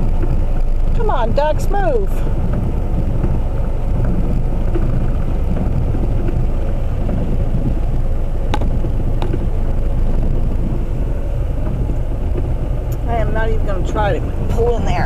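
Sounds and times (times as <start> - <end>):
vehicle engine rumble from cabin: 0.0 - 15.0.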